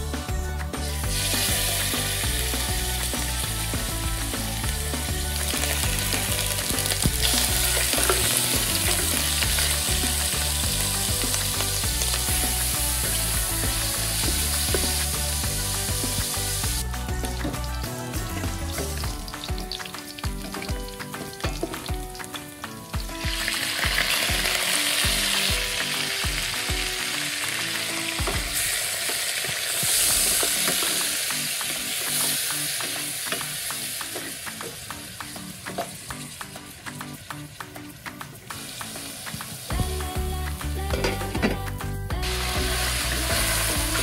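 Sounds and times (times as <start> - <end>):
background music with steady beat: 0.0 - 44.0
meat sizzling in oil: 1.0 - 16.9, 17.6 - 41.0, 42.2 - 44.0.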